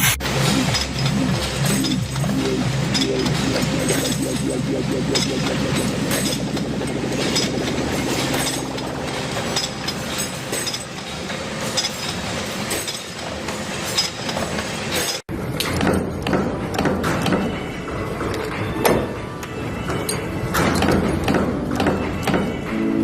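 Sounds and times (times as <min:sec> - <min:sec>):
metalworking machinery running: 0:00.0 - 0:23.0.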